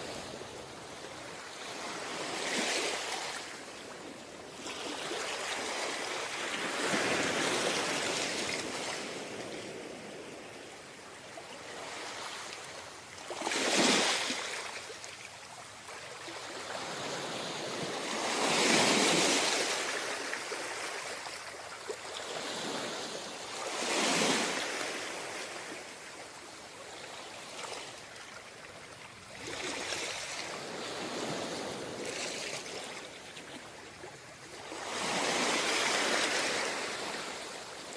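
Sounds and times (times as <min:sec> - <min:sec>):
sea waves breaking on a beach: 0:00.0 - 0:37.9.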